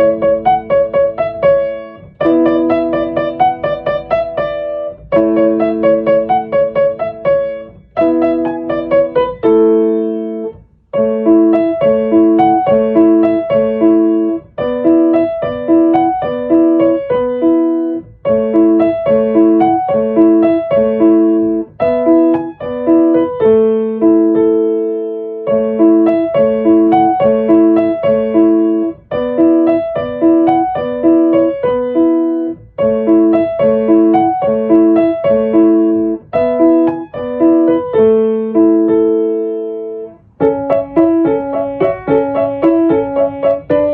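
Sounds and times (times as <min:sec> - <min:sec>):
electric piano melody with beat: 0:00.0 - 0:43.9.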